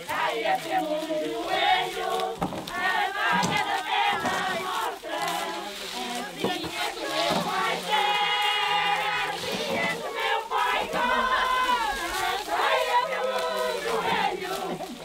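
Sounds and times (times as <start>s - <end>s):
group singing folk song: 0.0s - 15.0s.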